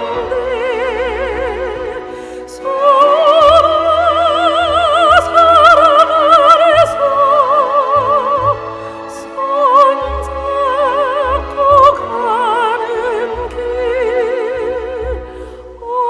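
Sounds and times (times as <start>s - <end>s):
musical accompaniment: 0.0s - 16.0s
soprano singing with vibrato: 0.0s - 16.0s.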